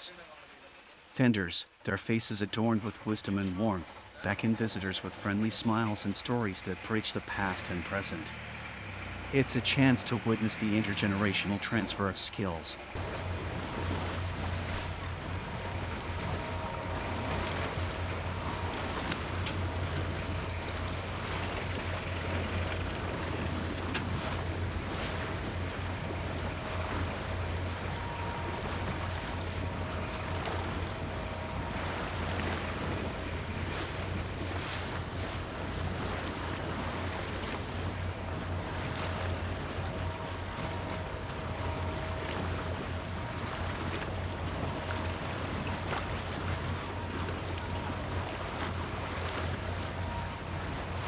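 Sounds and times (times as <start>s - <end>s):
boat engine running: 0.0s - 51.0s
water noise: 0.0s - 51.0s.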